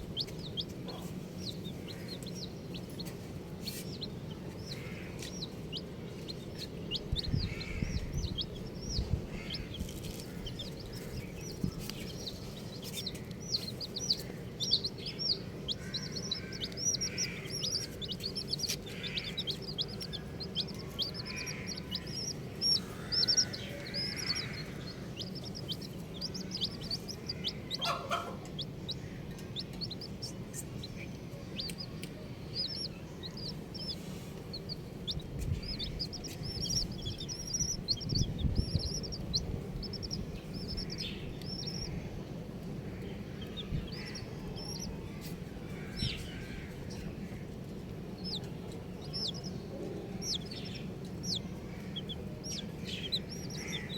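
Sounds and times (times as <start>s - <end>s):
baby chicks peeping: 0.0s - 53.9s.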